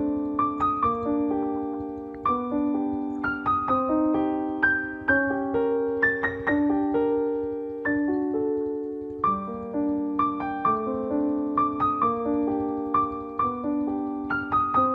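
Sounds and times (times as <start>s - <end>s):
slow piano melody: 0.0s - 14.9s.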